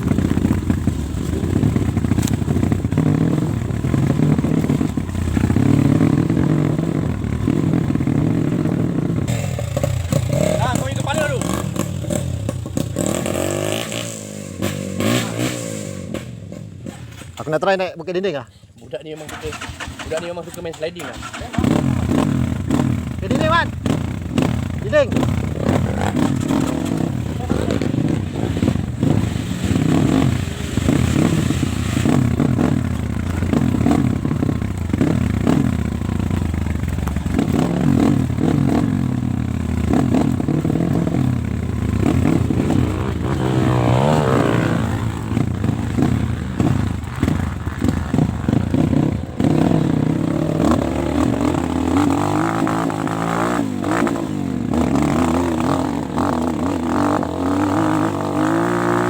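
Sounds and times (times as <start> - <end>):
dirt bike engine revving: 0.0 - 17.0, 21.2 - 59.0.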